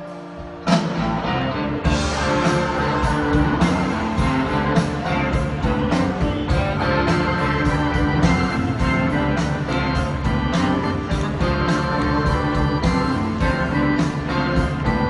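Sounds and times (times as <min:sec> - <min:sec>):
drums: 0:00.0 - 0:15.0
electric guitar: 0:00.0 - 0:15.0
keyboard: 0:00.0 - 0:15.0.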